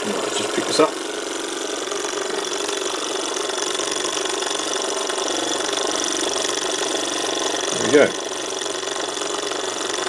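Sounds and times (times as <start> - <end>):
hot air engine running: 0.0 - 10.0.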